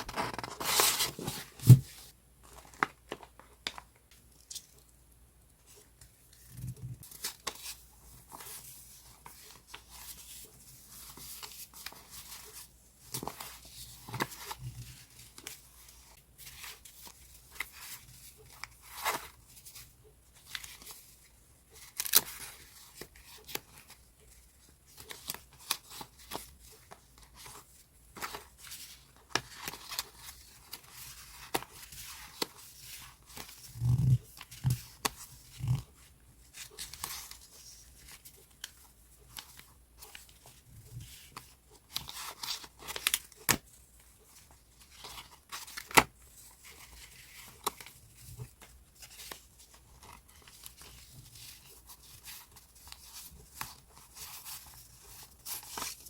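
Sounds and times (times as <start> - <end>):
paper rustling and crinkling: 0.0 - 3.9, 5.7 - 56.0.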